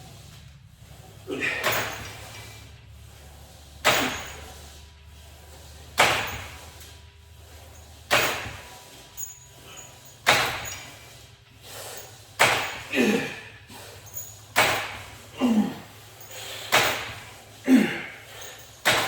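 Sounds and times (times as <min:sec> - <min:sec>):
steady low hum: 0:00.0 - 0:19.0
cable machine weights clanking: 0:01.2 - 0:04.8, 0:05.4 - 0:19.0.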